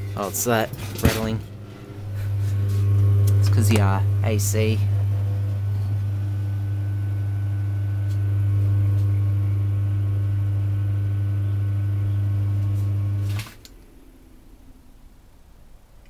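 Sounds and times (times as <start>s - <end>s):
electric motor humming: 0.0s - 13.7s.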